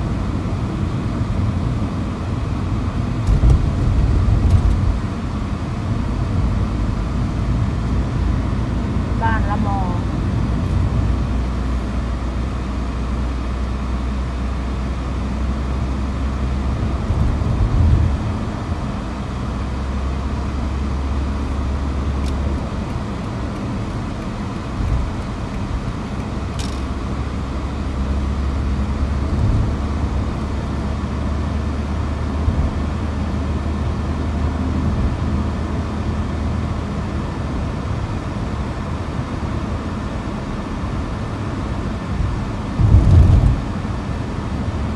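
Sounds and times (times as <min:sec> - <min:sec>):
car engine and tyres humming: 0:00.0 - 0:44.9.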